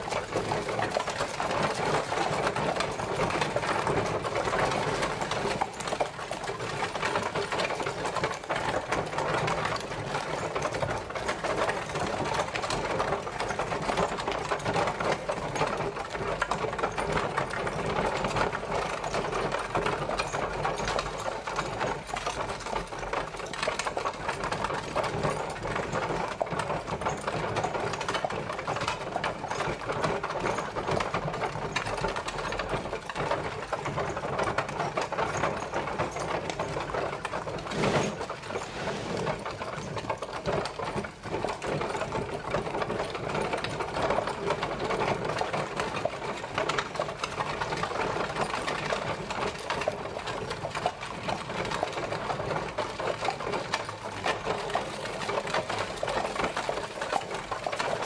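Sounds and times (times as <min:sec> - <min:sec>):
carriage wheels rattling on road: 0:00.0 - 0:58.0.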